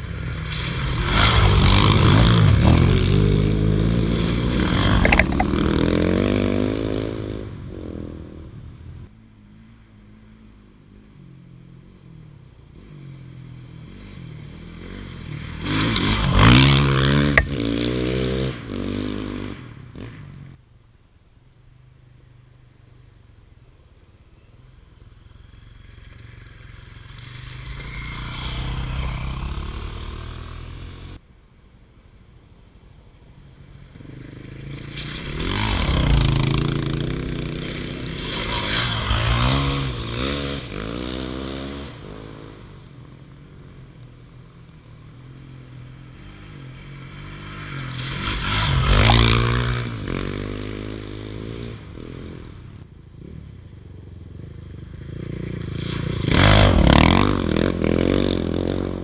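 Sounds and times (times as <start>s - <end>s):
motorcycles riding past: 0.0s - 20.6s, 23.0s - 31.2s, 33.2s - 59.0s.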